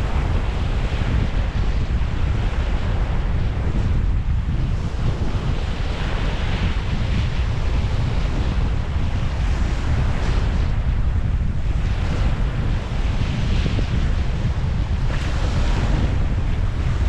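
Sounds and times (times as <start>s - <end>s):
small waves washing on beach: 0.0s - 17.0s
wind buffeting microphone: 0.0s - 17.0s.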